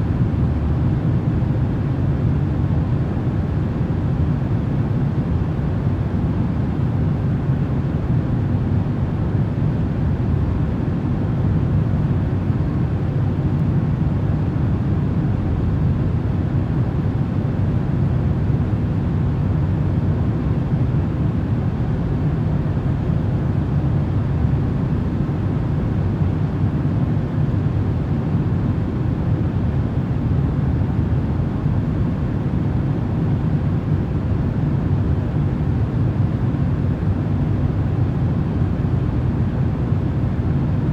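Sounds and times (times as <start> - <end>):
steady low rumbling noise: 0.0 - 40.9.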